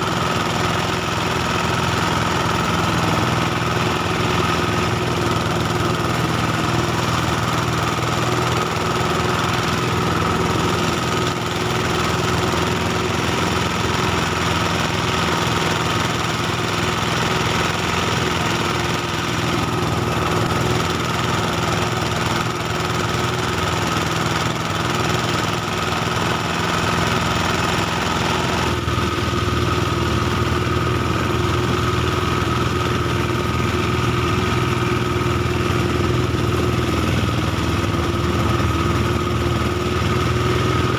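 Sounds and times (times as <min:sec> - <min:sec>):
threshing machine engine running: 0:00.0 - 0:40.9.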